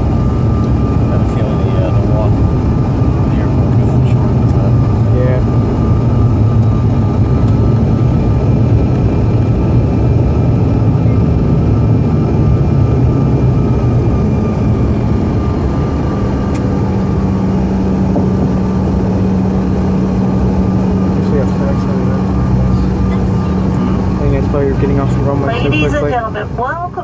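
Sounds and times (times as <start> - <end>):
jet engine low rumble: 0.0 - 27.0.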